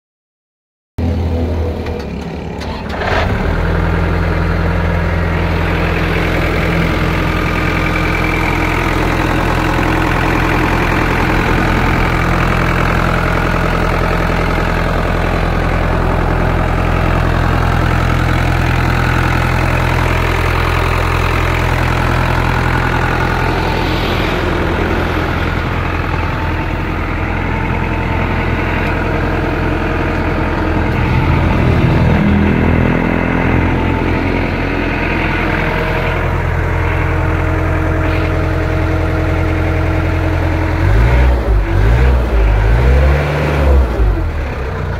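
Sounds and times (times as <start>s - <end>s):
tractor diesel engine idling: 1.0s - 44.9s.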